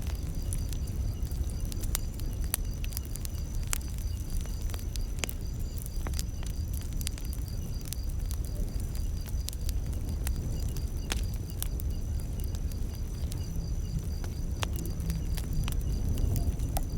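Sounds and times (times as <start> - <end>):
crickets trilling: 0.0 - 16.9
wood fire crackling and popping: 0.0 - 16.9.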